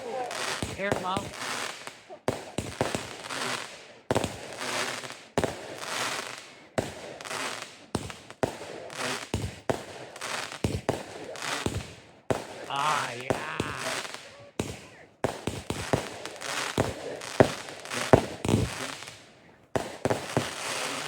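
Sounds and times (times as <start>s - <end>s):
fireworks banging and crackling: 0.0s - 21.0s.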